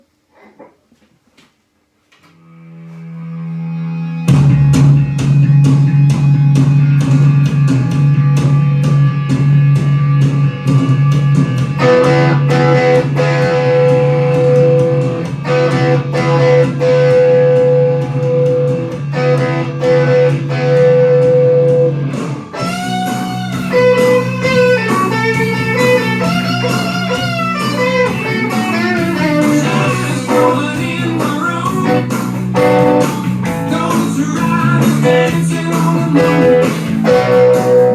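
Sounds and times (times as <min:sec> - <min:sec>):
lead electric guitar: 0:02.3 - 0:37.9
drums keeping beat: 0:04.3 - 0:37.9.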